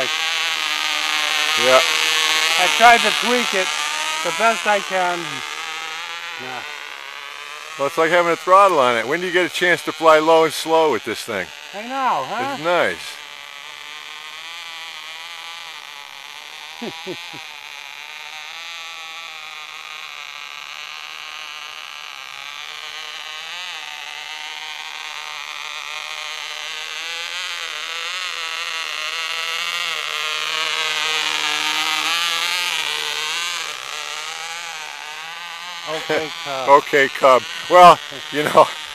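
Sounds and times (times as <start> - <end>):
model plane engine buzzing: 0.0 - 38.9.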